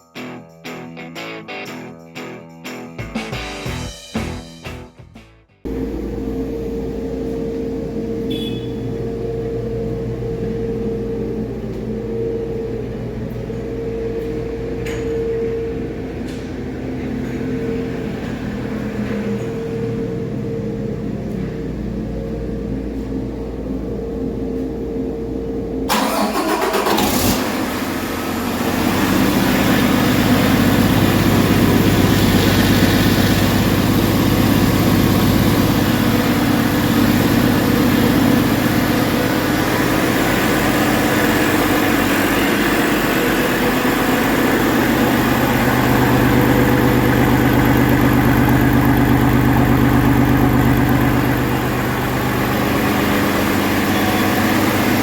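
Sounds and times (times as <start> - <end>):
steady low hum: 5.6 - 25.9, 29.3 - 55.0
diesel engine starting and idling: 5.6 - 55.0.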